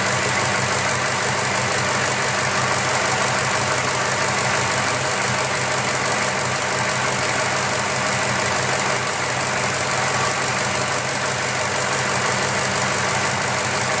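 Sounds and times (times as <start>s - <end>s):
engine idling: 0.0s - 14.0s
fast even engine knock: 0.0s - 14.0s.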